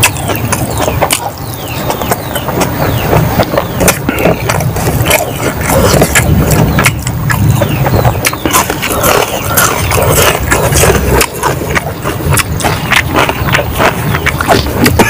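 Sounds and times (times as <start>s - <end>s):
chewing with lip-smacks: 0.0s - 15.0s
fingers mixing food on a plate: 0.0s - 15.0s.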